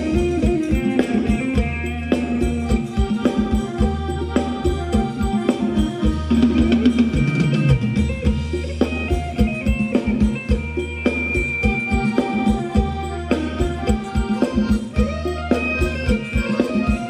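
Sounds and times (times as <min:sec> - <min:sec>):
drum kit beat: 0:00.0 - 0:17.0
instrumental melody: 0:00.0 - 0:17.0
sustained bass notes: 0:00.0 - 0:17.0.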